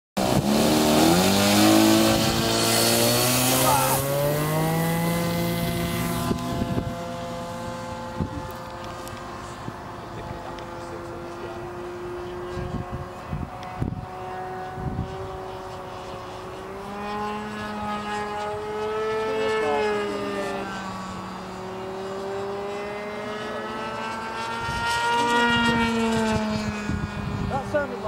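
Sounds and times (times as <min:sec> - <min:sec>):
model airplane engine buzzing: 0:00.2 - 0:28.0.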